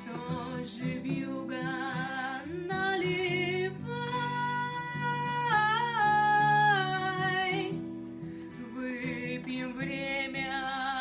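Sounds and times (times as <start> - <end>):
acoustic guitar chords: 0.0 - 11.0
girl singing with vibrato: 0.0 - 11.0.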